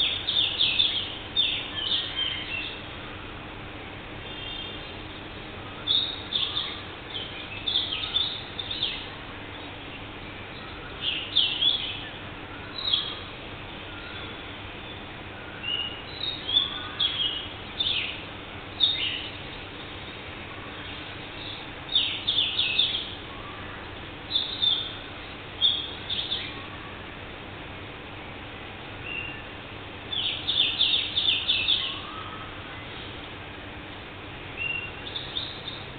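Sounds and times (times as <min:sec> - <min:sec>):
birds chirping: 0:00.0 - 0:27.2, 0:28.2 - 0:35.9
steady background hiss: 0:00.0 - 0:35.9.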